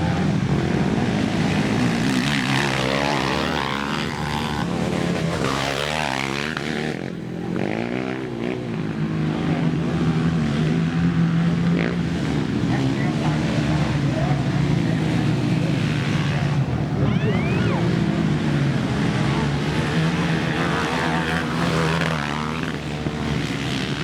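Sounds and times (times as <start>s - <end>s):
atv engines racing by: 0.0s - 24.0s.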